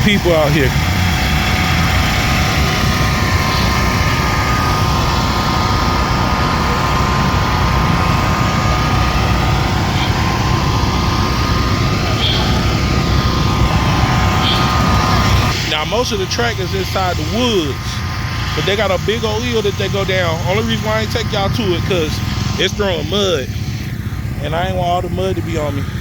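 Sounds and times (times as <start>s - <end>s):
dirt bike engines buzzing: 0.0s - 26.0s.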